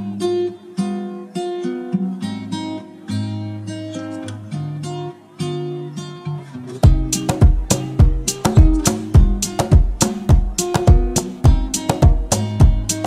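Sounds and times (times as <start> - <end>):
acoustic guitar picking notes: 0.0 - 13.0.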